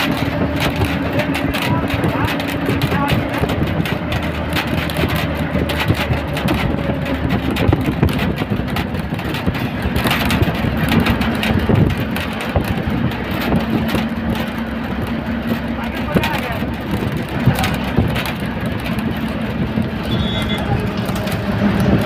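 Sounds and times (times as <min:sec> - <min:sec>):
bus body rattling: 0:00.0 - 0:22.0
bus engine and road noise: 0:00.0 - 0:22.0.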